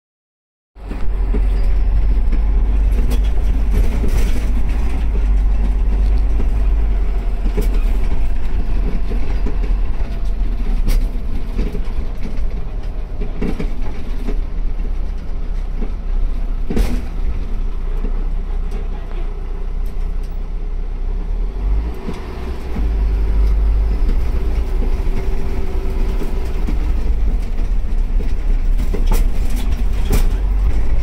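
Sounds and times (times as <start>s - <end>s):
diesel engine drone: 0.8s - 31.0s.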